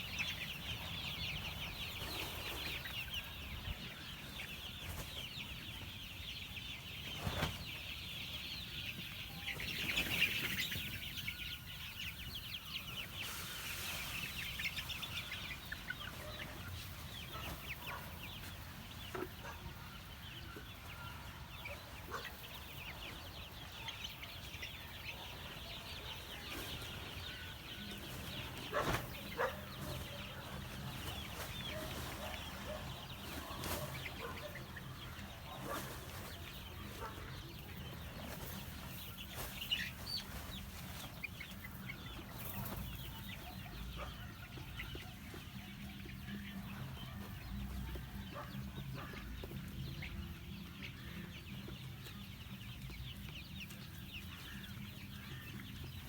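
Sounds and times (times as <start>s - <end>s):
chicks peeping and clucking: 0.0s - 56.0s.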